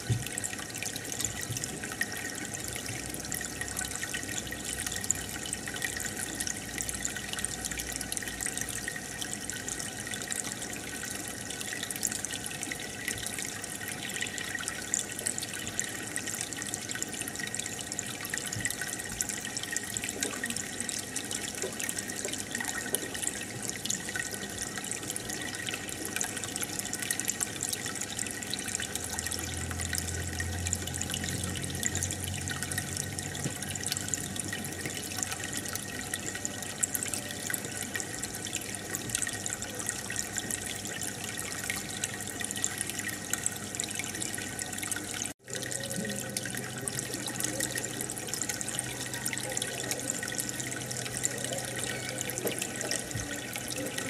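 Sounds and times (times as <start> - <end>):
aquarium water bubbling: 0.0 - 54.0.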